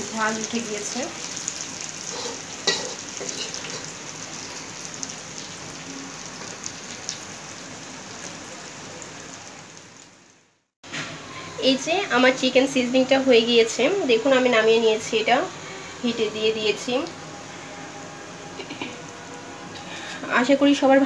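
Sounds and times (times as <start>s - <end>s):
food sizzling in a hot pan: 0.0s - 10.4s, 11.0s - 20.8s.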